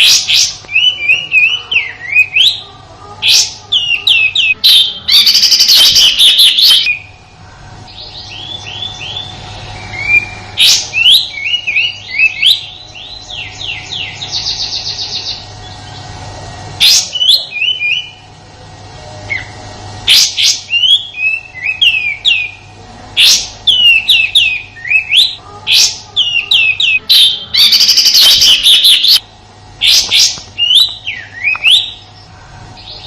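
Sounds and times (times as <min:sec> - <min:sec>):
bird singing harsh song: 0:00.0 - 0:16.1, 0:16.8 - 0:18.3, 0:19.3 - 0:29.2, 0:29.8 - 0:33.0.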